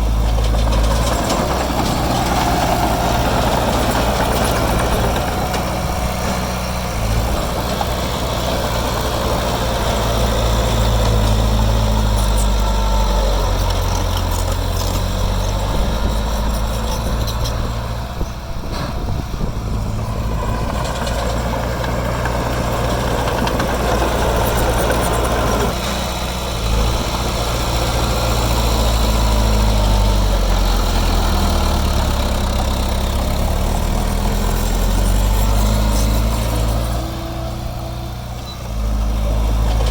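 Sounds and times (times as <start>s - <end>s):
heavy diesel machinery engine: 0.0s - 39.9s.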